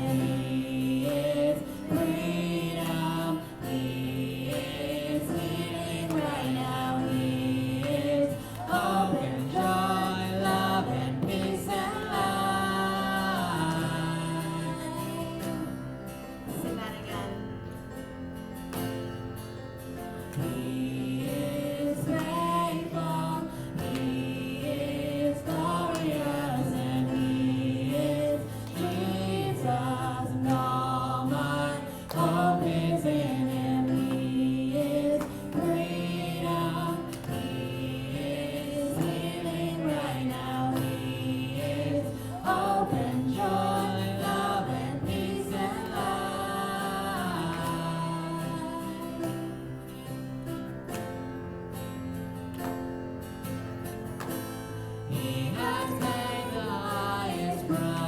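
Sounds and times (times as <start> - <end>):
choir singing: 0.0 - 17.6, 20.3 - 50.2, 55.0 - 58.0
instrumental backing music: 0.0 - 58.0.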